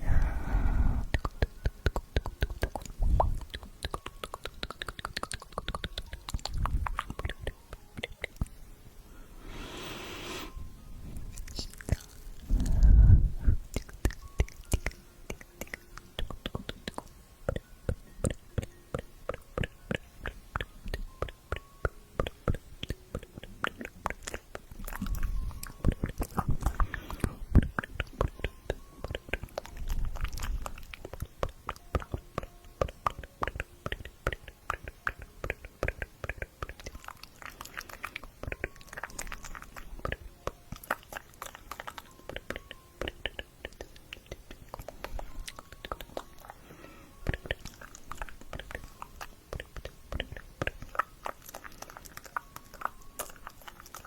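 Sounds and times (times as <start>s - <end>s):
wet mouth clicks and smacks: 1.0s - 8.5s, 11.4s - 13.0s, 13.6s - 46.6s, 47.2s - 54.0s.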